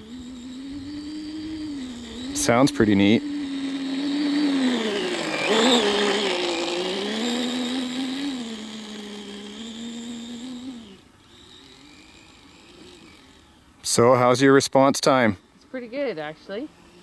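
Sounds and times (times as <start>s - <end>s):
electric motor whine: 0.0s - 14.0s, 15.2s - 17.0s.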